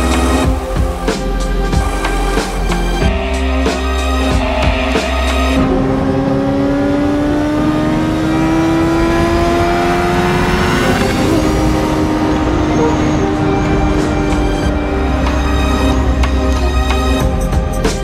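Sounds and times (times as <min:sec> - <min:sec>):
car engine accelerating hard: 0:00.0 - 0:17.3.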